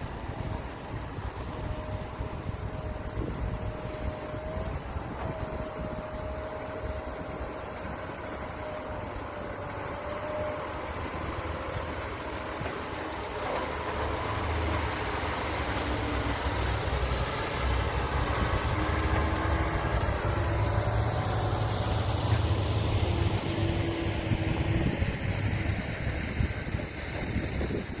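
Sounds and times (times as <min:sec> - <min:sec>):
diesel engine low rumble: 0:00.0 - 0:28.0.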